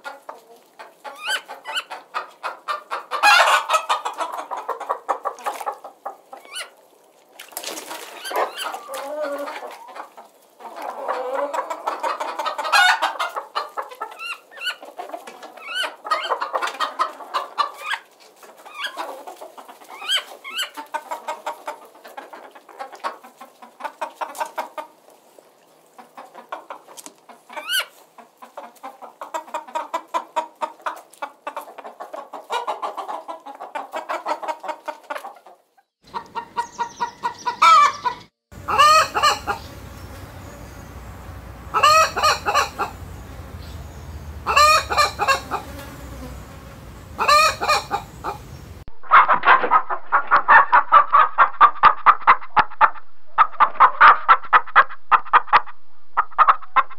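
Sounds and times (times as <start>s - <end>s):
hens clucking: 0.0s - 7.0s, 7.6s - 56.9s.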